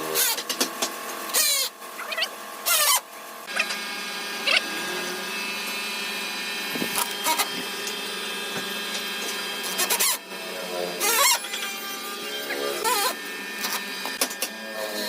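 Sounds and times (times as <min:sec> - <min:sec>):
power tool carving wood: 0:02.6 - 0:15.0.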